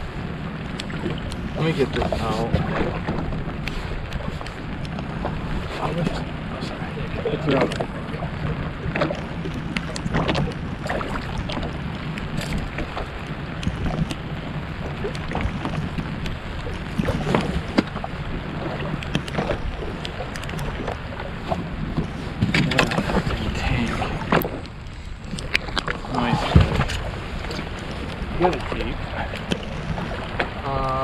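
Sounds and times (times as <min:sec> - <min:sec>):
water noise: 0:00.0 - 0:31.0
wind: 0:00.0 - 0:31.0.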